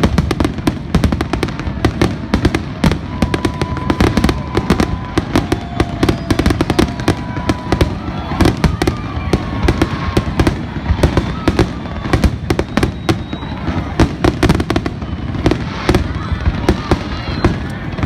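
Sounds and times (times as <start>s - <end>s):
firework whistles: 0.0s - 18.0s
fireworks cracks and bangs: 0.0s - 18.0s.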